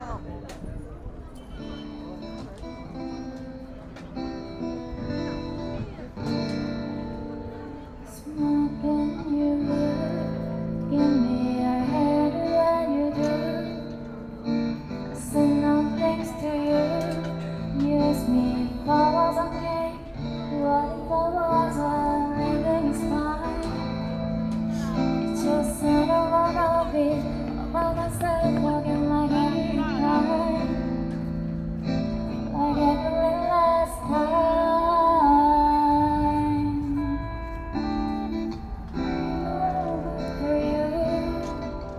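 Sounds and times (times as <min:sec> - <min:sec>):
light guitar: 0:00.0 - 0:41.9
woman singing: 0:07.7 - 0:41.9.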